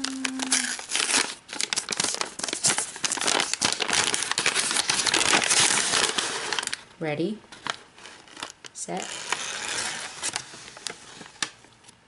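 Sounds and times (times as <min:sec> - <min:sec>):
plastic bag crinkling: 0:00.0 - 0:06.8, 0:07.6 - 0:11.8.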